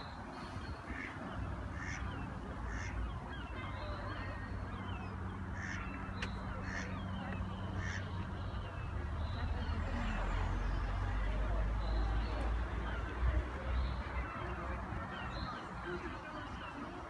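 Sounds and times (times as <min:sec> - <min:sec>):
small songbirds twittering: 0:00.0 - 0:17.0.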